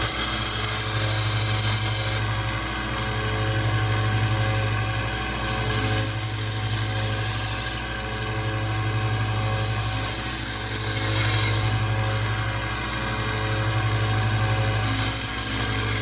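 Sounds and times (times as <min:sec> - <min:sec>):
belt sander motor hum: 0:00.0 - 0:16.0.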